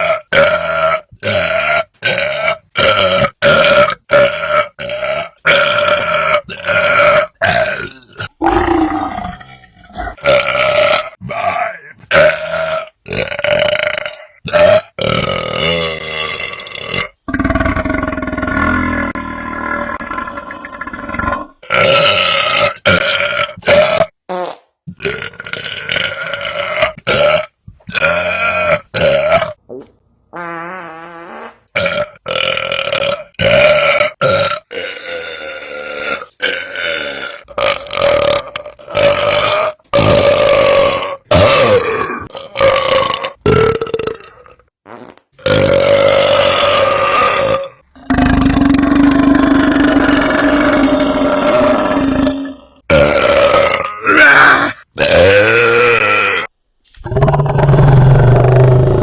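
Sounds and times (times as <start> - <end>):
person belching: 0.0 - 59.0.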